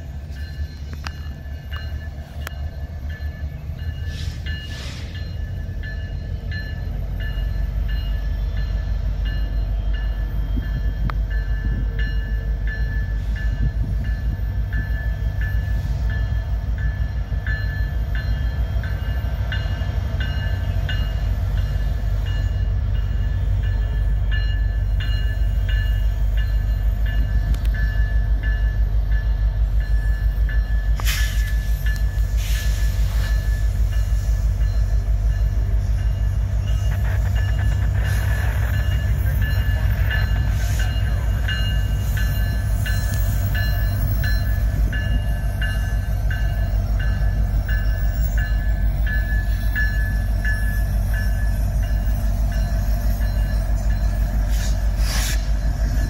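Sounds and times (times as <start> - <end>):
diesel locomotives rumbling: 0.0 - 56.0.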